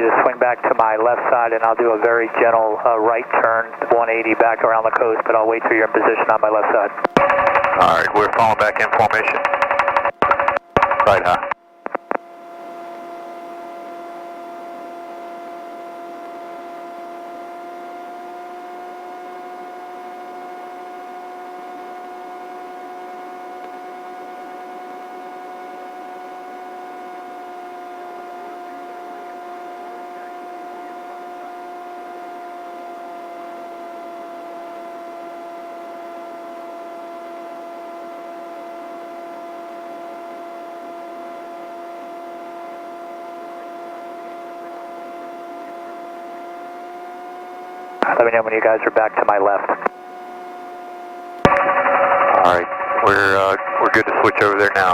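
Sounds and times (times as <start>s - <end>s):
helicopter drone: 0.0s - 54.9s
pitched whine: 0.0s - 54.9s.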